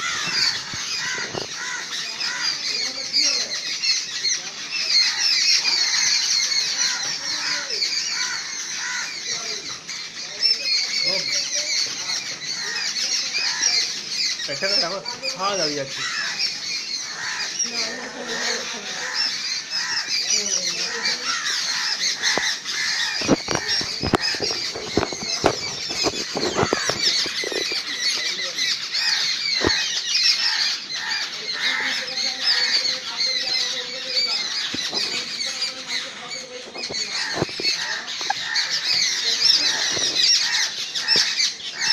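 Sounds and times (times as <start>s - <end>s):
birds twittering: 0.0s - 41.9s
crows calling: 0.0s - 41.9s.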